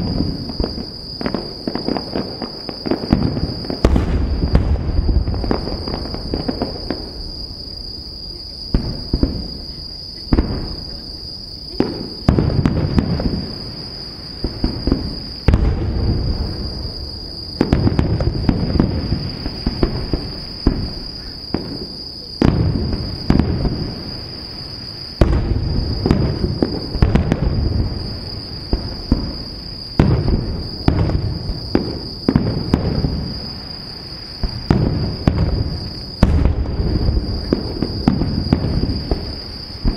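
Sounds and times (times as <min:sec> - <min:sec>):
firework shells booming: 0:00.0 - 0:39.9
insect trill: 0:00.0 - 0:39.9.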